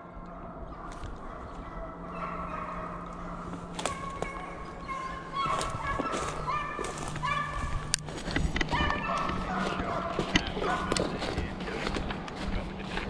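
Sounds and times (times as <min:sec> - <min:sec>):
dogs baying and yelping: 0:00.0 - 0:13.0
footsteps in dry leaves: 0:02.4 - 0:13.0.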